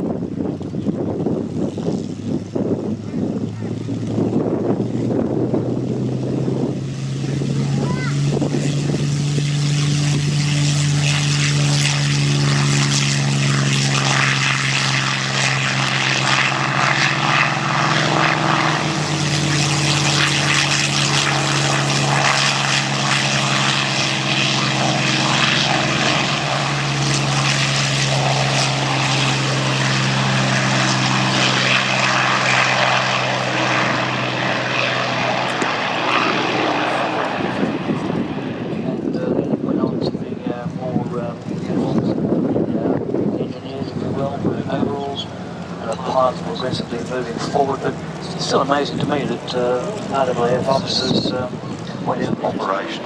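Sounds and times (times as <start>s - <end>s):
propeller aircraft engines droning: 0.0s - 53.0s.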